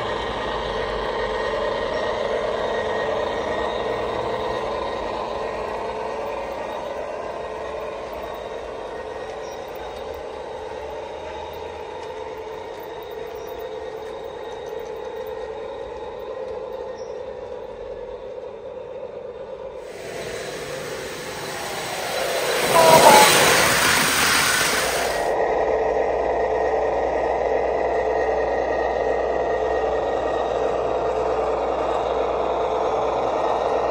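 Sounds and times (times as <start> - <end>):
model train diesel engine sound: 0.0 - 33.9.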